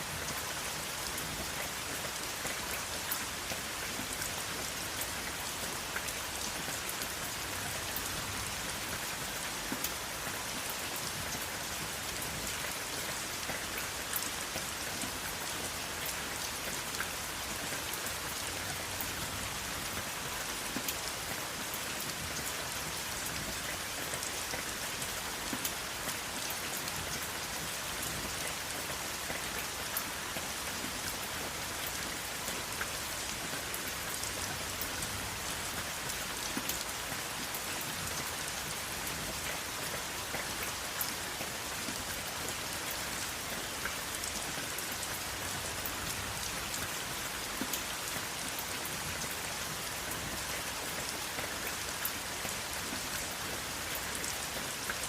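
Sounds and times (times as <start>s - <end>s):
steady rain falling: 0.0s - 55.0s
raindrops ticking on a surface: 0.1s - 55.0s.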